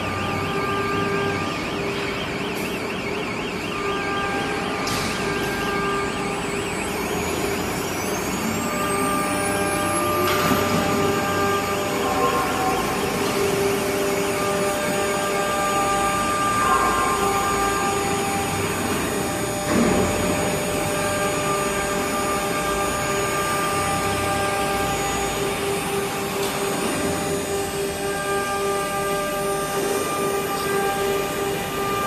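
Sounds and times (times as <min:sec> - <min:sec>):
router spindle whining: 0:05.7 - 0:32.0.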